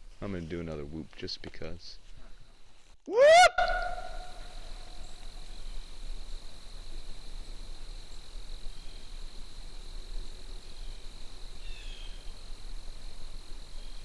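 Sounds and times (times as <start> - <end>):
crickets trilling: 0.1 - 14.0
falling insect chirp: 0.2 - 14.0.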